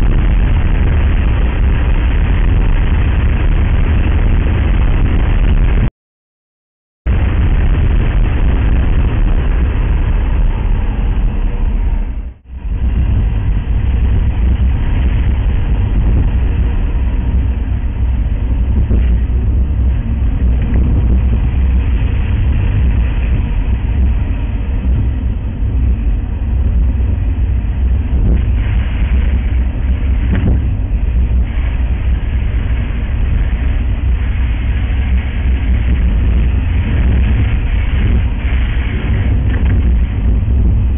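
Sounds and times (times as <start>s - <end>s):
car road and engine rumble: 0.0s - 5.9s, 7.1s - 40.9s.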